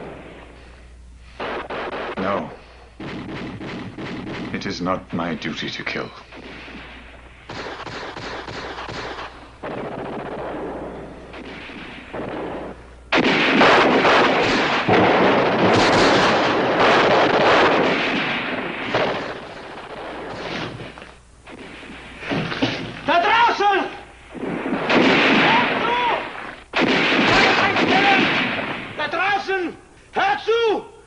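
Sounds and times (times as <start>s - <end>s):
dense battle gunfire: 0.0s - 29.7s.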